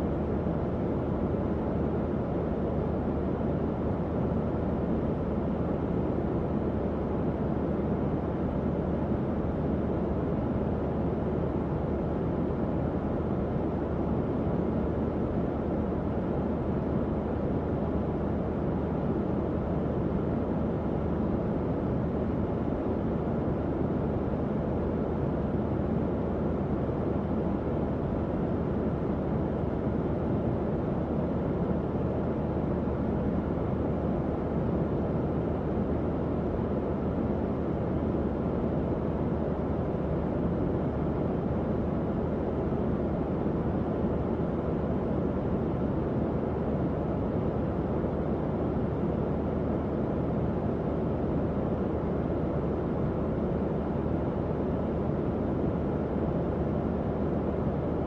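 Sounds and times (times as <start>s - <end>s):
faint hum: 0.0s - 58.0s.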